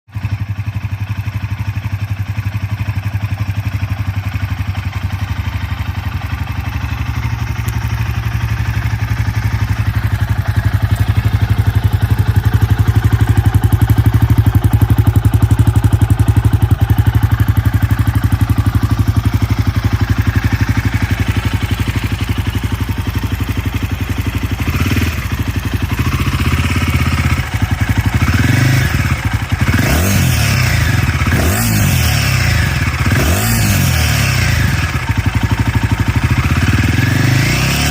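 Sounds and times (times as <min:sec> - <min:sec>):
motorcycle engine idling and revving: 0:00.1 - 0:37.9.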